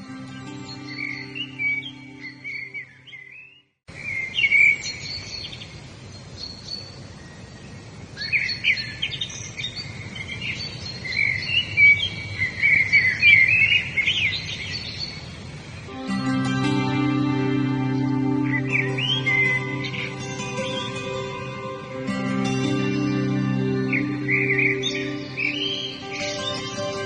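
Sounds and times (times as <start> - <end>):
songbirds chirping and singing: 0.0 - 27.0
steady outdoor hiss: 0.0 - 27.0.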